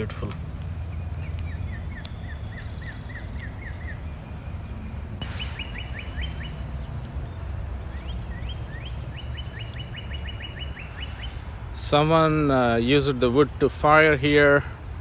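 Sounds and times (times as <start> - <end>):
bird singing sliding chirps: 0.0 - 14.9
steady low rumble: 0.0 - 15.0.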